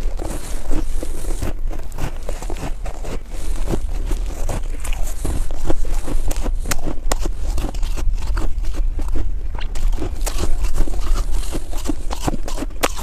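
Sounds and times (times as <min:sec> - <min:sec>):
low rumble: 0:00.0 - 0:12.8
chewing snow crunches: 0:00.0 - 0:13.0.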